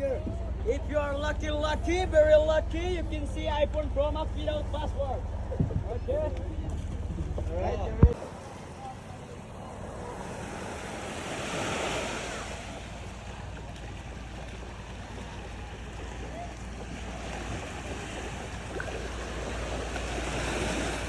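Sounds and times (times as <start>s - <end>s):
sea waves washing: 0.0s - 21.0s
wind rumbling on microphone: 0.0s - 21.0s.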